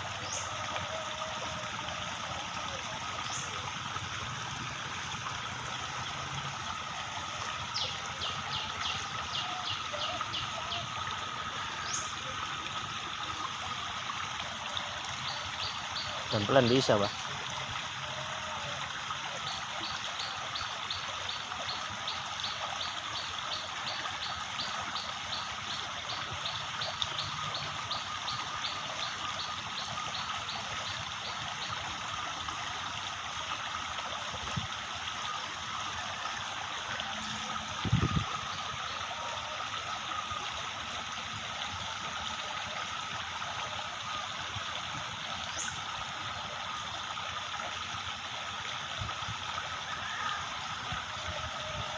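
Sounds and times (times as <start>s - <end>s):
stream rushing and trickling: 0.0s - 51.9s.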